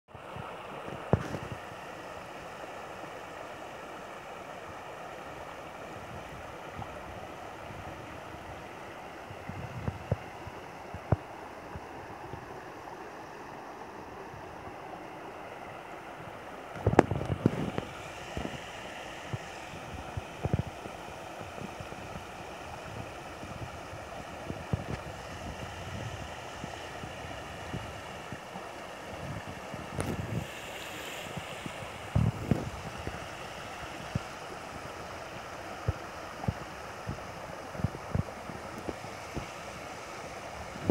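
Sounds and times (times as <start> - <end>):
river water rippling over stones: 0.1 - 40.9.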